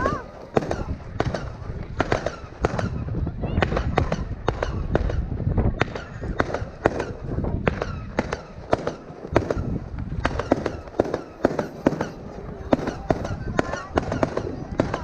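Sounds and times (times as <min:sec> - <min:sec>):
firework bangs and crackles: 0:00.0 - 0:15.0.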